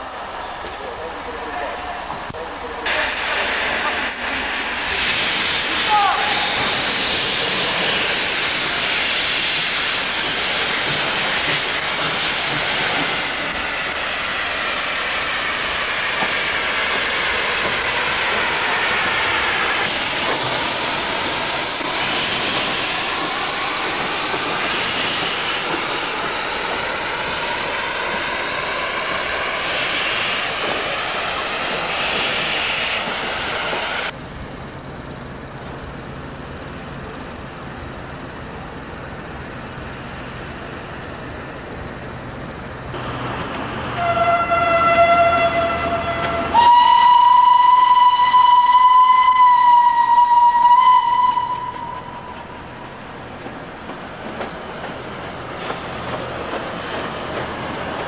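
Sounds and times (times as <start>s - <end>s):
steam locomotive hissing steam: 1.0s - 58.0s.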